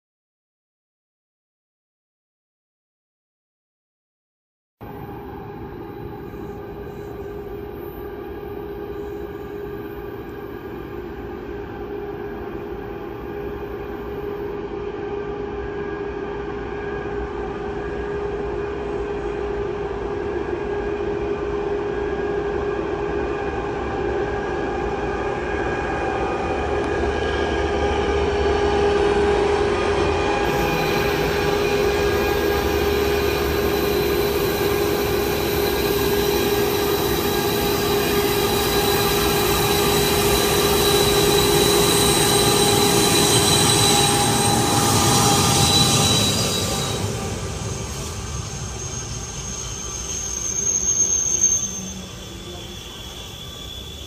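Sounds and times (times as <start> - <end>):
freight train passing: 4.8 - 54.0
steady high whine: 4.8 - 54.0.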